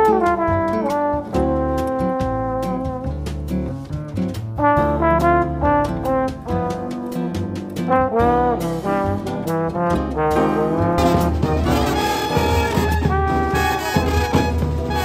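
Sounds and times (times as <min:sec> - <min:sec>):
brass band playing melody: 0:00.0 - 0:03.5, 0:04.6 - 0:15.0
steady drum beat: 0:00.0 - 0:15.0.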